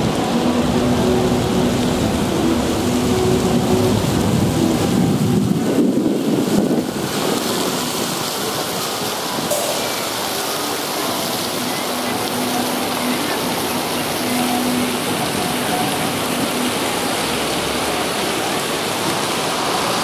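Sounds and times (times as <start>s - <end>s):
city street noise: 0.0s - 20.0s
fountain jets splashing on paving: 0.0s - 20.0s.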